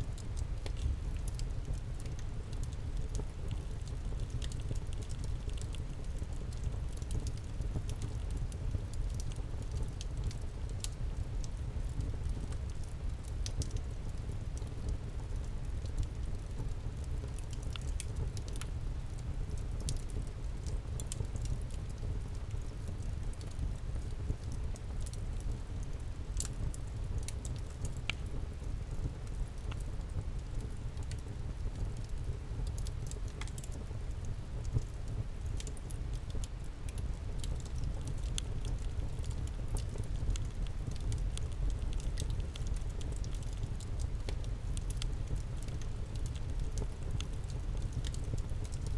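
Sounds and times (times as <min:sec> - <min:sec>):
low rumble of flame: 0:00.0 - 0:48.9
campfire crackling and popping: 0:00.1 - 0:48.9.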